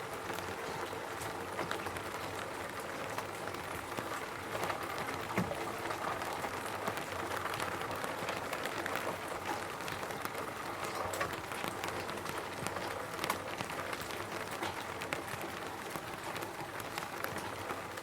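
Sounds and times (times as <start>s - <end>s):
rain pattering on a roof: 0.0s - 18.0s.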